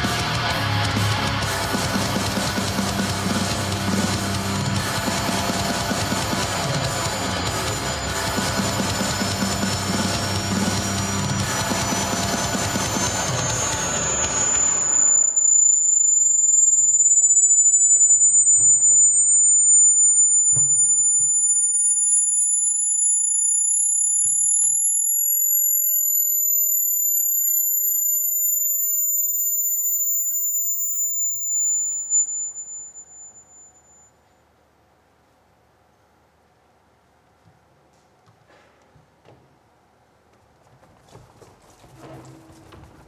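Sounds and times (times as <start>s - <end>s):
electronic high-pitched whine: 0.0s - 34.8s.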